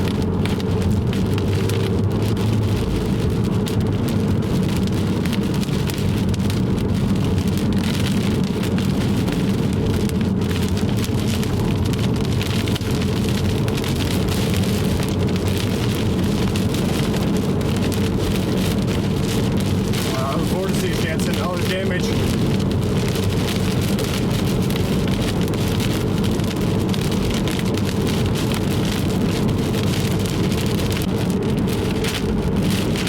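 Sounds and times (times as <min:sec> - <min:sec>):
car engine and tyre hum: 0:00.0 - 0:33.0
rain on car roof: 0:00.0 - 0:33.0.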